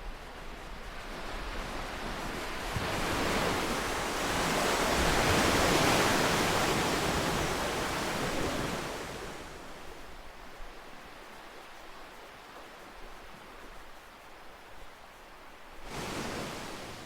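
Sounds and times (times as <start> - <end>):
ocean waves washing in: 0.3 - 17.0.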